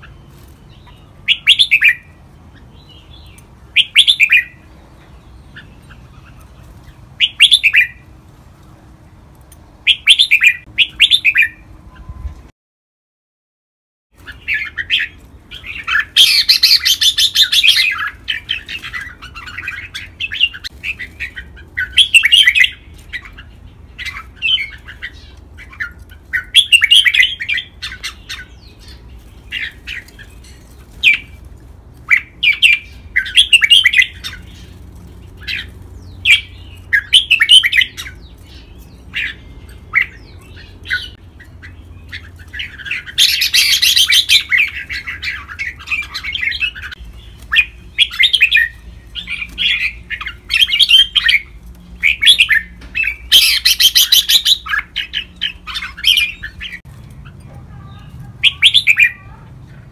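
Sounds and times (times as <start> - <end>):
bulbul singing: 0.0 - 8.1, 9.6 - 12.4, 14.2 - 31.4, 32.0 - 59.9.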